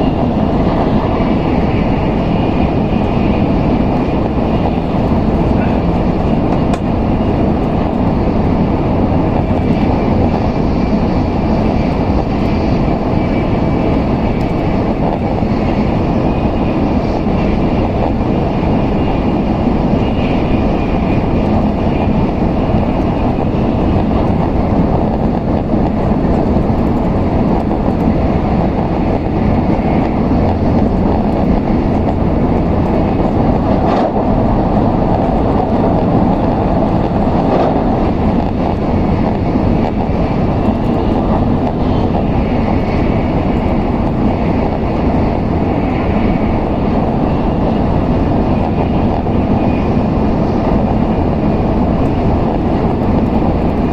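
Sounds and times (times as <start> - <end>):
train cabin rumble: 0.0 - 53.9.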